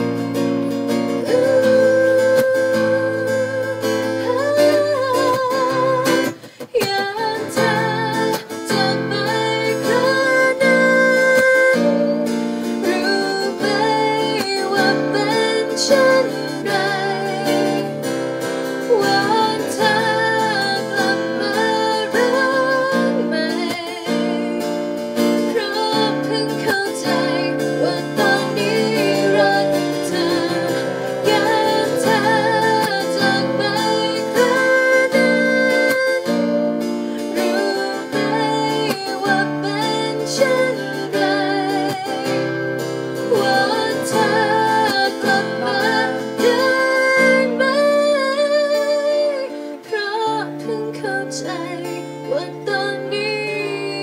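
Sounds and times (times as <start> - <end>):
acoustic guitar chords: 0.0 - 54.0
woman singing with vibrato: 0.9 - 54.0.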